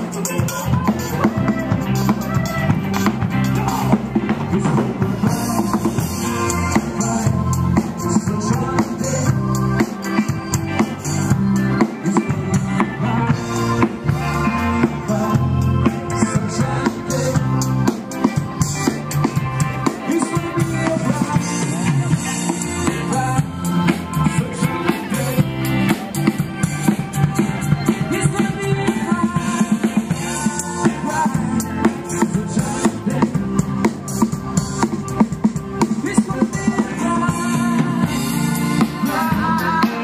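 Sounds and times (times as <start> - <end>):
background music with drums: 0.0 - 40.0.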